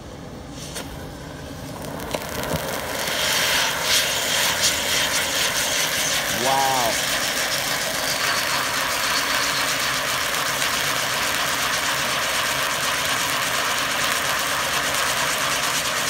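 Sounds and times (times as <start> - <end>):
firework fountain hissing: 0.0 - 16.0.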